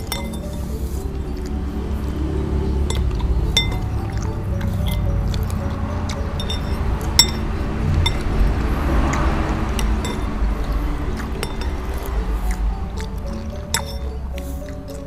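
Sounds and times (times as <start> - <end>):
spoons clinking against bowls: 0.0 - 15.0.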